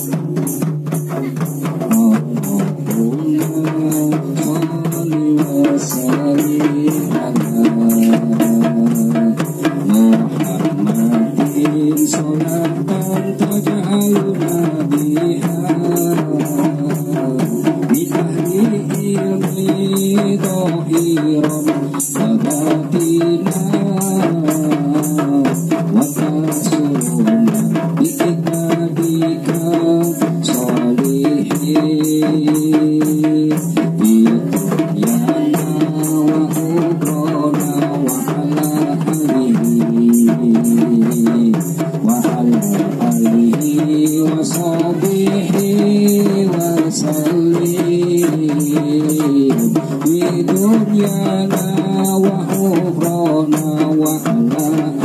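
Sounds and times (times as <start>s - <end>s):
frame drums beating: 0.0s - 55.0s
women singing devotional songs: 1.9s - 55.0s.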